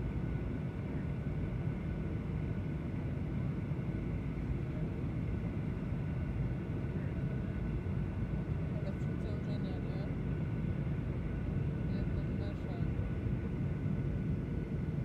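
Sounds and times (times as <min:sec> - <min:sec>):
airliner cabin engine rumble: 0:00.0 - 0:15.0
faint steady whine: 0:00.0 - 0:15.0.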